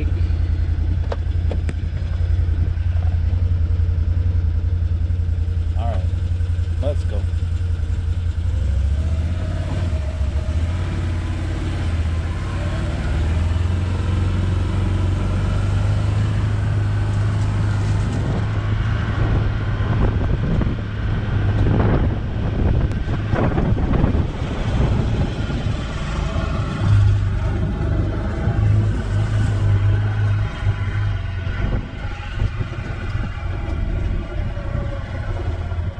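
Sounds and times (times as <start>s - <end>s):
uneven rough track noise: 0.0s - 35.9s
vehicle engine droning: 0.0s - 35.9s.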